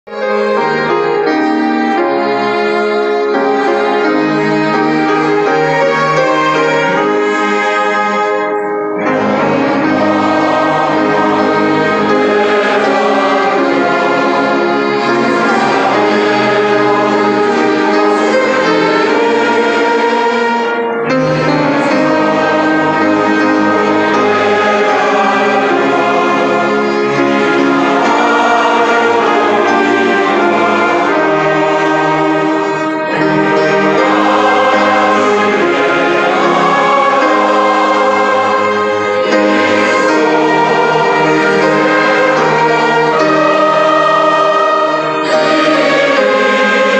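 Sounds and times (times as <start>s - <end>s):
orchestra playing classical piece: 0.1s - 46.9s.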